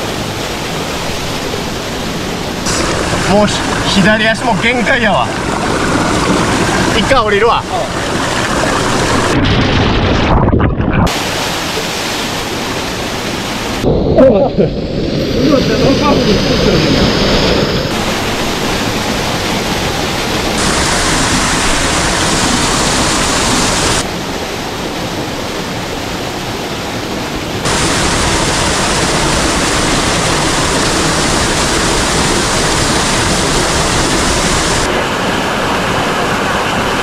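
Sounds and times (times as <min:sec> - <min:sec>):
waterfall rushing water: 0:00.0 - 0:09.4, 0:11.1 - 0:13.9, 0:15.6 - 0:37.0.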